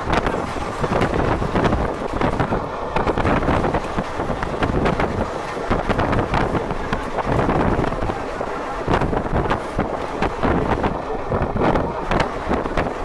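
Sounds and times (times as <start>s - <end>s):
moving train running noise: 0.0s - 13.0s
wind buffeting microphone: 0.0s - 13.0s.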